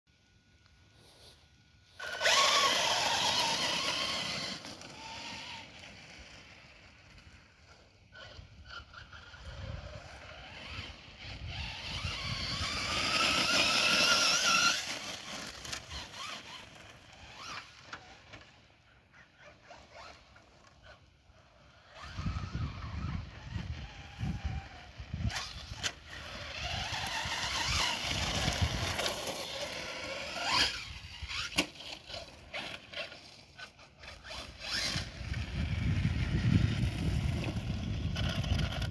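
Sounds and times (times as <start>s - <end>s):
electric motor whining: 1.9s - 18.5s, 19.6s - 38.9s.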